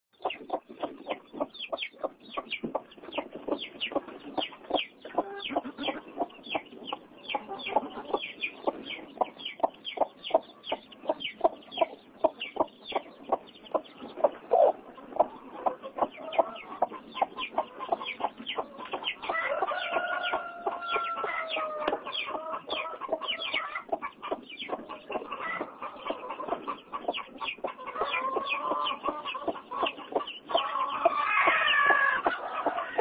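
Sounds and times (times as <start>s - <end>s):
chicks peeping: 0.2s - 33.0s
hen clucking: 0.2s - 33.0s.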